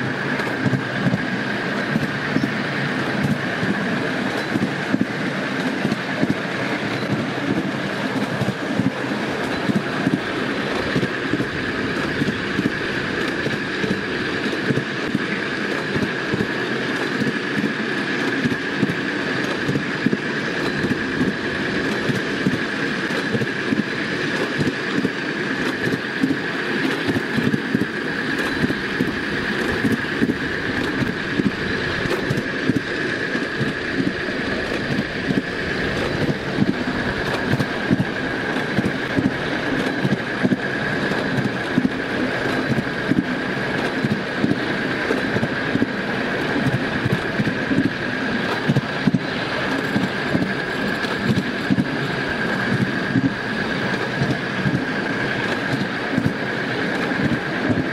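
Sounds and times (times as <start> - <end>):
wheels rumbling over rails: 0.0 - 57.9.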